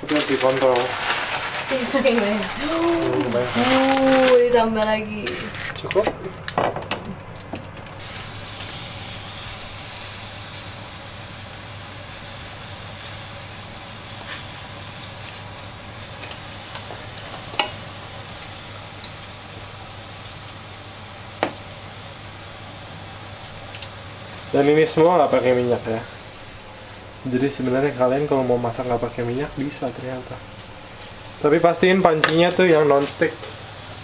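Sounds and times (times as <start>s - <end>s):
cauliflower rice sizzling in a pan: 0.0s - 5.8s, 8.0s - 34.0s.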